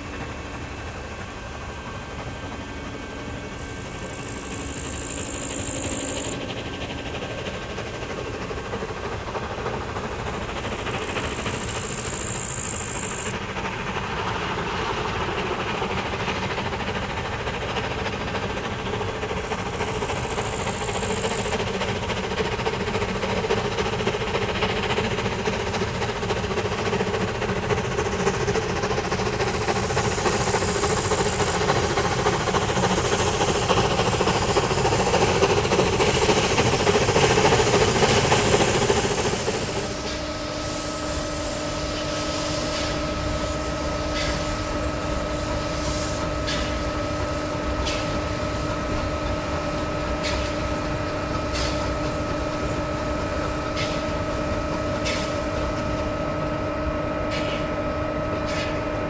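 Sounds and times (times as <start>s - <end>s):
steam hissing: 0.0s - 56.4s
steam locomotive exhaust beats: 0.0s - 59.0s
steam locomotive running: 0.0s - 59.0s.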